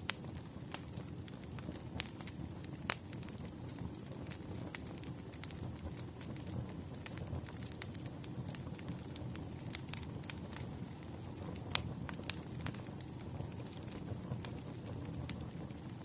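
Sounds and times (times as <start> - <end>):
low rumble of burning logs: 0.0 - 16.0
wood fire crackling: 0.0 - 16.0.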